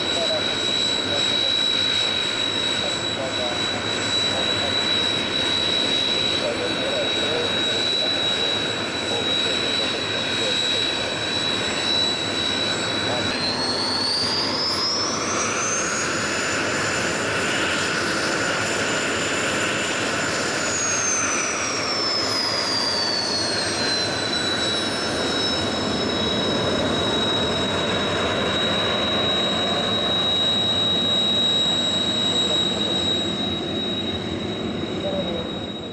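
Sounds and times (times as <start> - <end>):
jet engines whining and roaring: 0.0 - 35.9.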